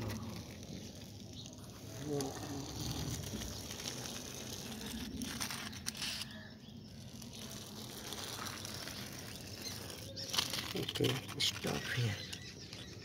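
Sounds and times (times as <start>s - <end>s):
plastic toy wheels rolling on concrete: 0.0s - 13.0s.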